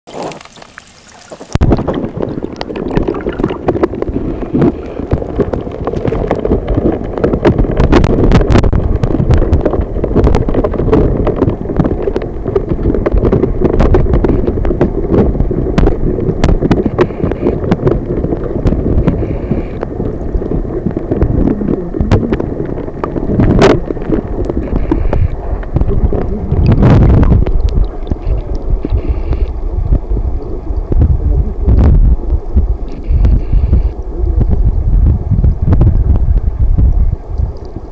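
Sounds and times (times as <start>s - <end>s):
muffled underwater stream rumble: 0.1s - 37.9s.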